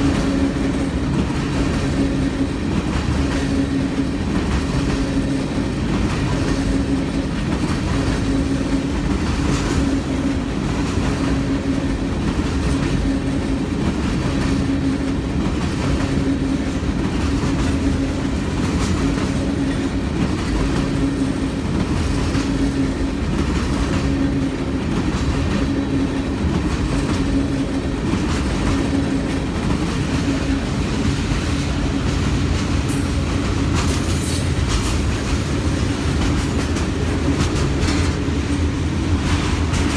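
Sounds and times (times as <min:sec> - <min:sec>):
freight train wheels clicking: 0:00.0 - 0:39.9.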